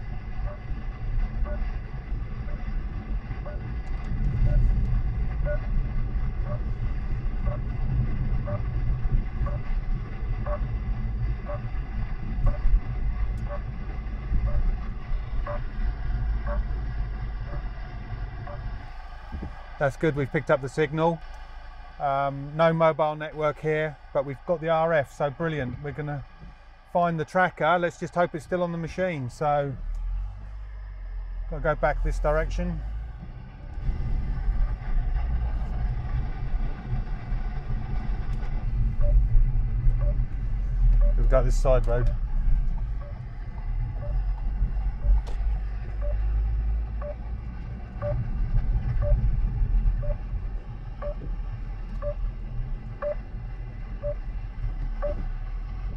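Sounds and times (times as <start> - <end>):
car road noise rumble: 0.0 - 55.9.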